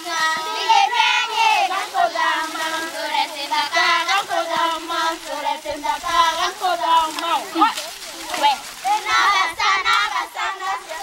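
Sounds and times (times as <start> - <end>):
children singing together: 0.0 - 7.7, 8.8 - 11.0.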